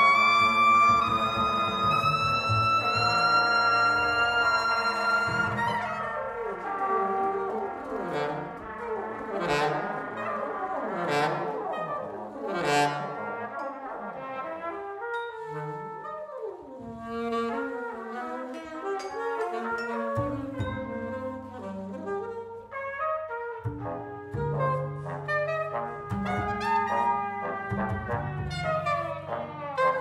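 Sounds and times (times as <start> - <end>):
live jazz band: 0.0 - 30.0
trombone and trumpet slides: 0.0 - 30.0.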